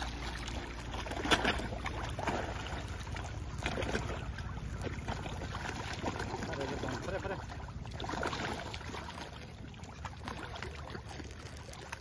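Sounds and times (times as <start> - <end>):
fish thrashing in water: 0.0 - 12.0
sharp splash: 0.0 - 12.0.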